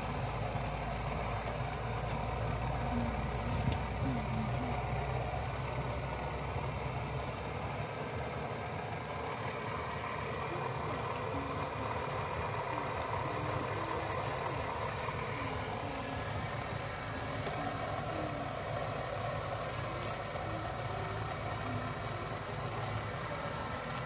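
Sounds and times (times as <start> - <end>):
model excavator mechanical hum: 0.0 - 24.0.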